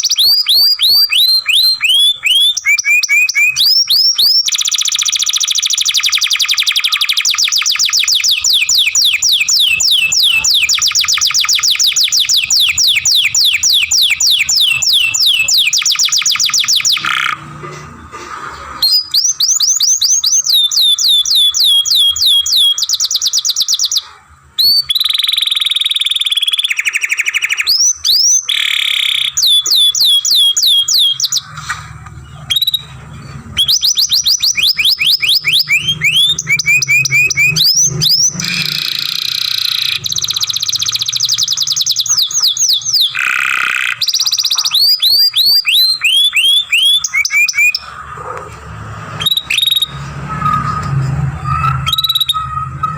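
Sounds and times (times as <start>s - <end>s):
canary singing rapid trills: 0.0s - 17.6s, 18.8s - 31.6s, 32.2s - 48.4s, 49.0s - 52.9s.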